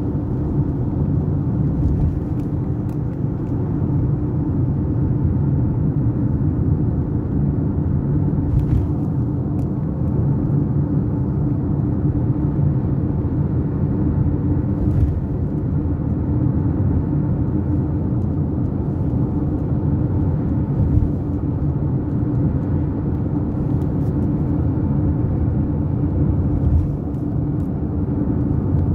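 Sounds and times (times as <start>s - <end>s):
road and engine rumble: 0.0s - 28.9s.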